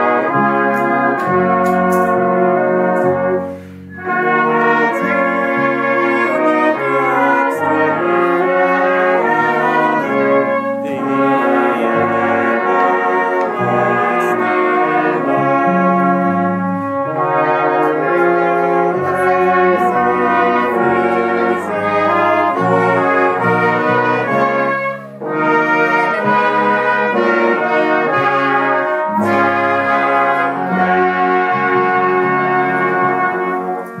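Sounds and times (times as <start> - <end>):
brass band playing: 0.0 - 34.0
live band with trumpet: 0.0 - 34.0.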